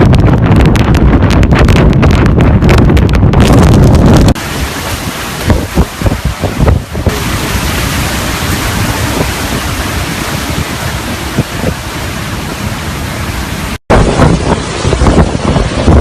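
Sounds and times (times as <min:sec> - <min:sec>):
strong wind rushing: 0:00.0 - 0:16.0
wind buffeting microphone: 0:00.0 - 0:16.0.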